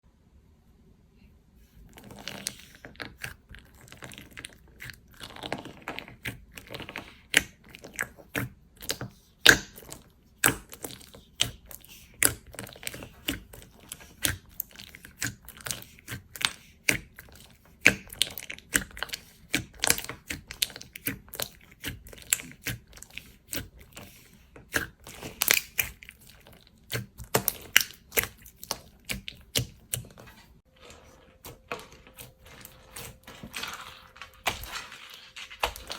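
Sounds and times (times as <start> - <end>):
slime squishing: 1.6 - 35.9.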